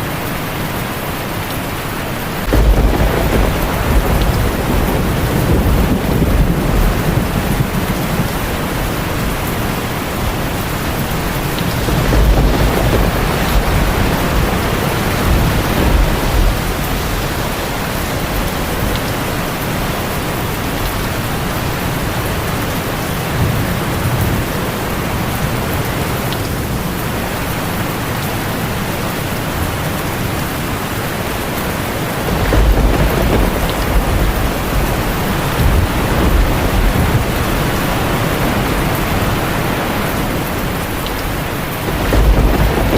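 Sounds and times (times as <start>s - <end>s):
heavy rain on a tin roof: 0.0s - 42.9s
thunder rumbling: 2.1s - 42.9s.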